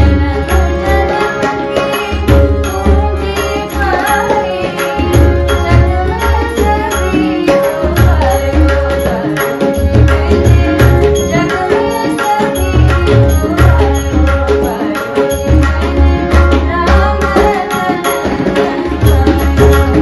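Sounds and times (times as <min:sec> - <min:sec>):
hand drums: 0:00.0 - 0:20.0
harmonium: 0:00.0 - 0:20.0
woman singing: 0:00.0 - 0:20.0.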